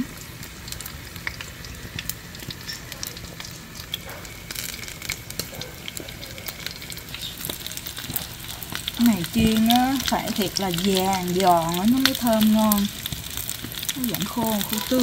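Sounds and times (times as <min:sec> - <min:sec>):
fish sizzling in oil: 0:00.0 - 0:15.0
oil popping and crackling: 0:00.0 - 0:15.0.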